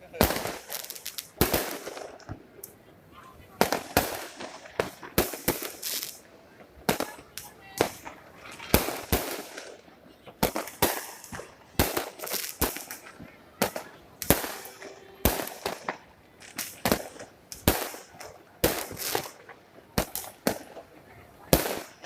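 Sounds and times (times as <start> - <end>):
fireworks banging and crackling: 0.0 - 22.0.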